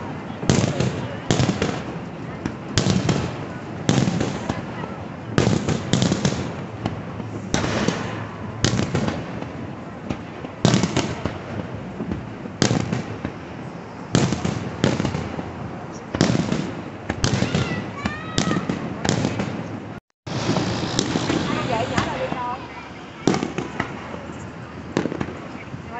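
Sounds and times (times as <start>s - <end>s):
fireworks shells booming: 0.0s - 25.6s.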